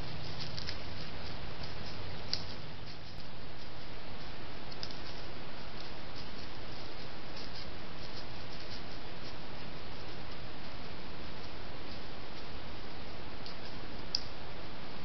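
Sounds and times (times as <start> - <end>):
steady microphone hiss: 0.0 - 15.0.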